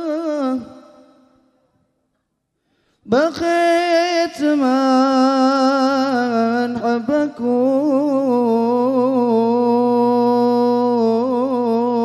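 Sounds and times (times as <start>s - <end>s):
person singing with vibrato: 0.0s - 1.6s, 3.0s - 12.0s.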